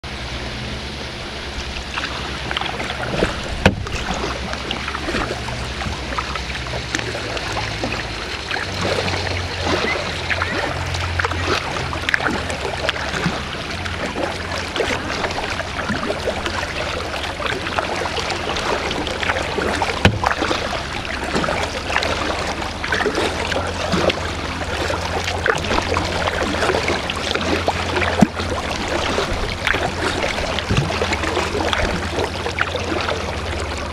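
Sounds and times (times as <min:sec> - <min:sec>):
paddle splashing in water: 0:00.0 - 0:33.9
water trickling and dripping: 0:01.2 - 0:33.9.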